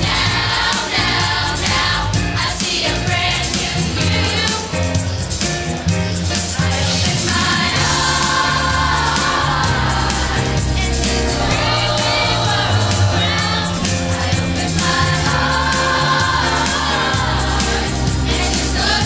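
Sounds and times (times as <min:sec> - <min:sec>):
choir singing: 0:00.0 - 0:05.0, 0:06.3 - 0:19.0
instrumental backing: 0:00.0 - 0:19.0
steady bass: 0:00.0 - 0:19.0.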